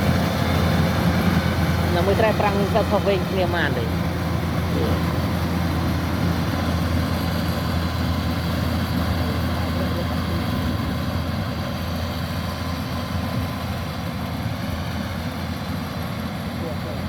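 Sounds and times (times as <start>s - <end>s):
combine harvester engine running: 0.0s - 17.0s.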